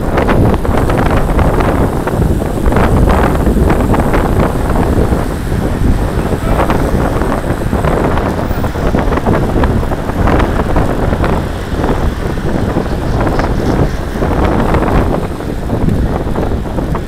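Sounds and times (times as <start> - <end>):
tyre rumble on road: 0.0 - 17.0
wind rushing over microphone: 0.0 - 17.0.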